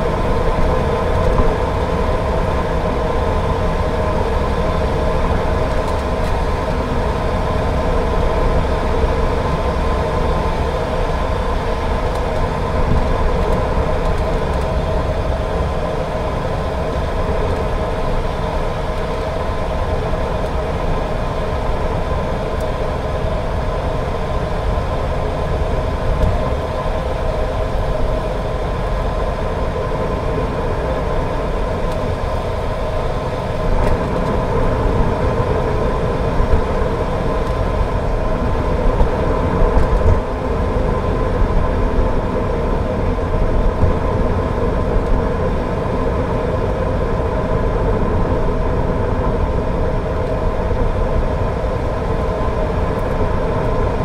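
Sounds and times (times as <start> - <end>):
car engine and tyres on wet road: 0.0 - 54.0
constant hum: 0.0 - 54.0.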